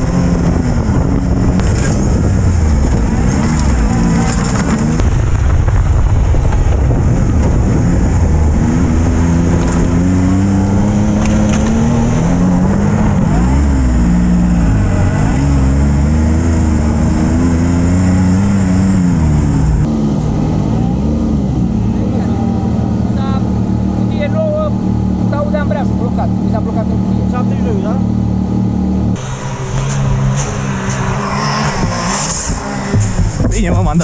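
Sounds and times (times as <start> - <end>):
engine revving while driving: 0.0 - 5.2, 6.5 - 34.0.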